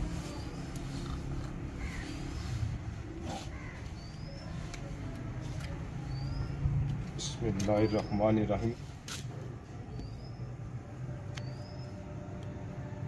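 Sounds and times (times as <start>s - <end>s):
birds chirping: 0.0s - 9.0s, 9.6s - 12.3s.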